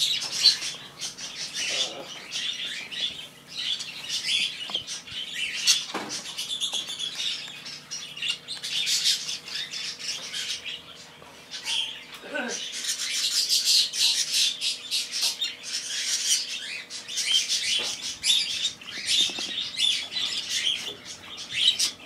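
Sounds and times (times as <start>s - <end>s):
small birds chirping and chattering: 0.0s - 22.0s.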